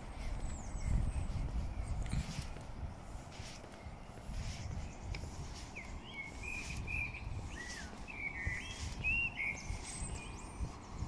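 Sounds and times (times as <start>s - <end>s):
low outdoor rumble: 0.0s - 11.0s
songbird singing: 0.0s - 11.0s.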